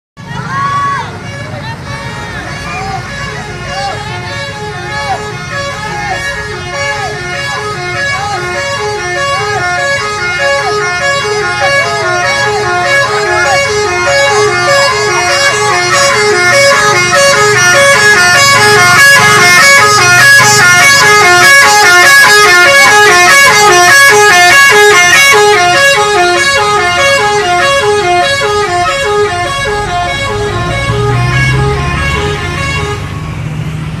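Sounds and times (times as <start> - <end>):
bus engine rumble: 0.2 - 34.0
musical air horns playing tune: 1.4 - 33.1.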